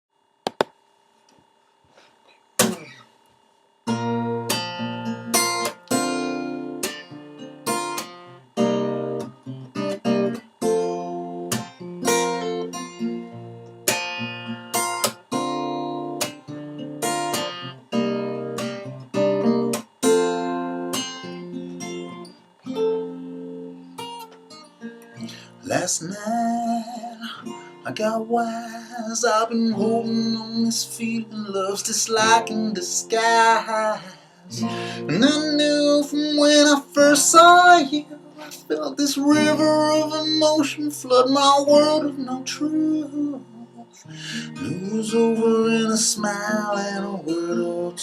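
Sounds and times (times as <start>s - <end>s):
acoustic guitar strumming: 2.6s - 3.0s, 3.8s - 48.0s.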